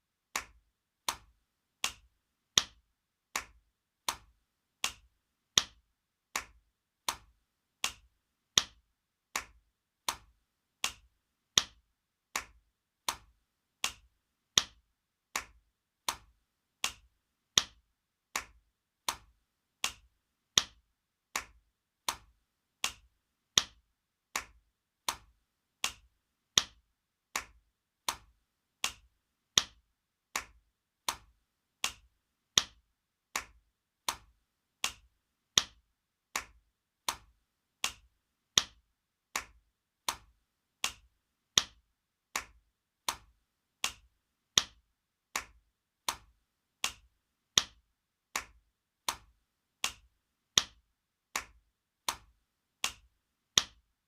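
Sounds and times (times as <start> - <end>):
hand slapping skin: 0.4 - 53.8.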